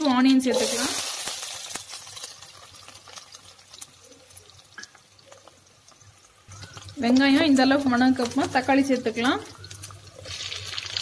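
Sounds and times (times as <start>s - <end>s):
shallots sizzling in hot oil: 0.0s - 11.0s.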